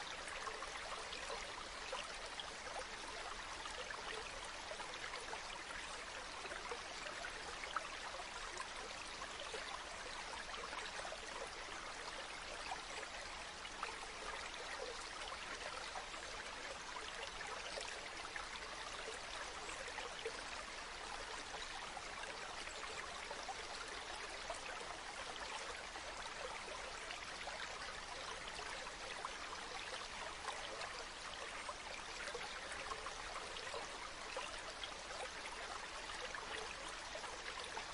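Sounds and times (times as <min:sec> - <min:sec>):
stream running over rocks: 0:00.0 - 0:37.9.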